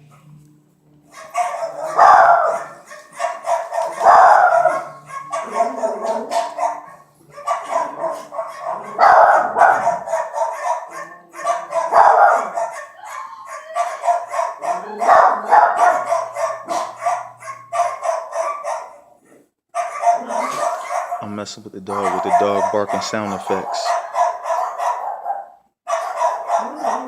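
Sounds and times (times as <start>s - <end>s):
dog barking: 1.1s - 21.3s, 21.9s - 27.0s.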